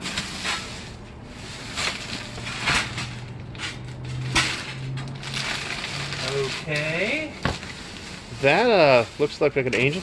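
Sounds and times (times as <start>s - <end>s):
rustling of items from boxes: 0.0s - 10.0s.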